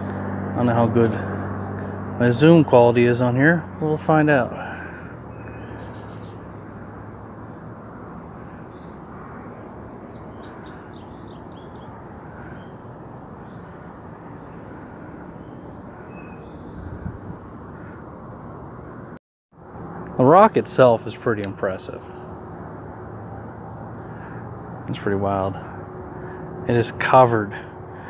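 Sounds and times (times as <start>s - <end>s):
small birds chirping: 0.0s - 18.8s, 21.4s - 28.0s.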